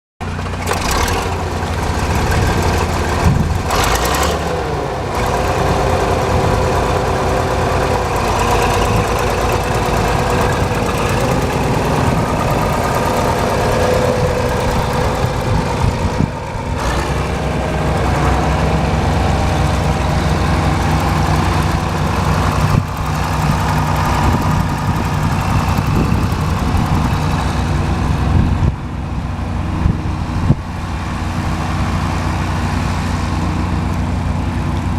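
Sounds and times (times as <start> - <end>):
tractor diesel engine idling: 0.2 - 34.9.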